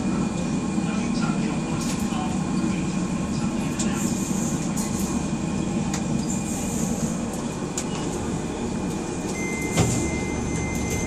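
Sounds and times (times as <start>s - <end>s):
train wheels and motors rumbling: 0.0s - 11.0s.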